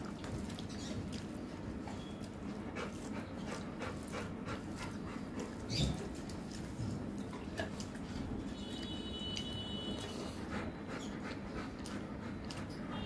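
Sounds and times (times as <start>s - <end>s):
dog panting: 0.0s - 8.6s, 9.9s - 13.0s.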